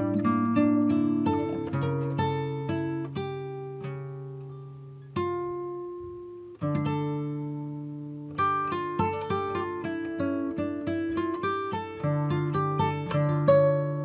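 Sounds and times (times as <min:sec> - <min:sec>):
acoustic guitar slow chords: 0:00.0 - 0:14.0.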